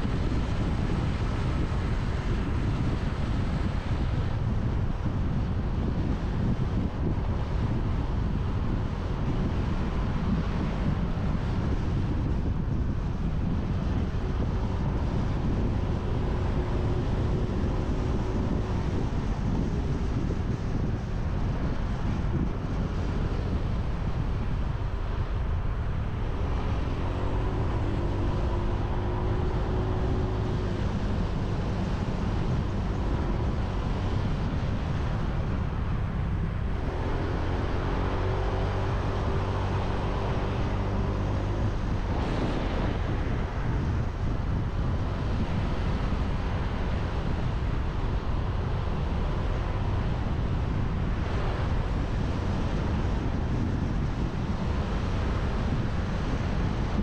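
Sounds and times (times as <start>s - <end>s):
road and tyre noise: 0.0s - 57.0s
wind buffeting microphone: 0.0s - 57.0s.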